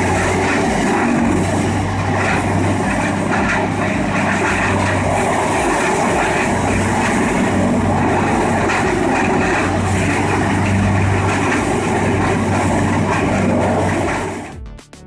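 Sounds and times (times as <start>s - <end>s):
constant low hum: 0.0s - 14.4s
heavy machinery engine: 0.0s - 14.5s.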